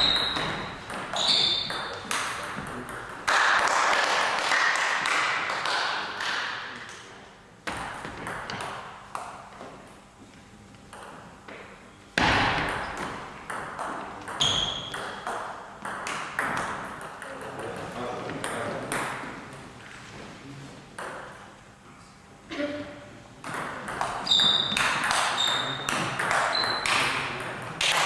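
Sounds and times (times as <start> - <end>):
table tennis ball hitting bats and table: 0.0 - 7.0, 7.6 - 10.0, 10.9 - 19.5, 21.0 - 21.6, 23.4 - 28.0.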